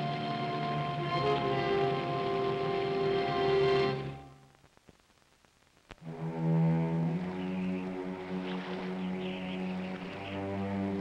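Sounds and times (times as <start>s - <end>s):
orchestral music sustained chords: 0.0s - 4.4s, 6.0s - 11.0s.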